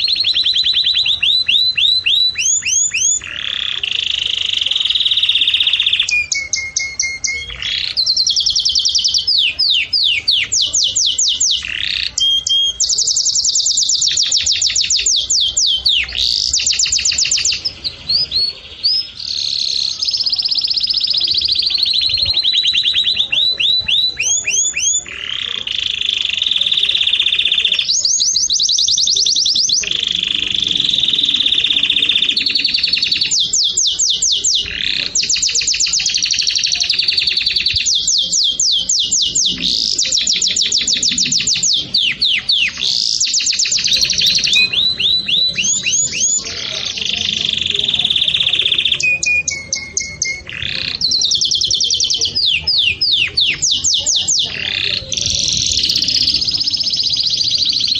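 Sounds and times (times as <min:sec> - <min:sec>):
songbird singing: 0:00.0 - 0:57.9.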